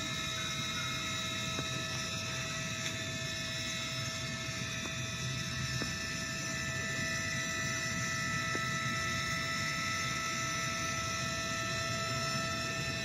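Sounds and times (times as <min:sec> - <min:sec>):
machinery humming with high whine: 0:00.0 - 0:13.0.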